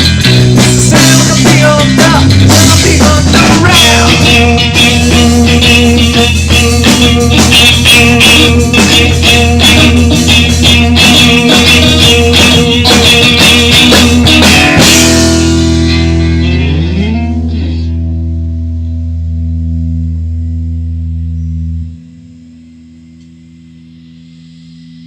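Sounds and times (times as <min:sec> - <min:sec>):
pop-rock drums and guitar: 0:00.0 - 0:22.0.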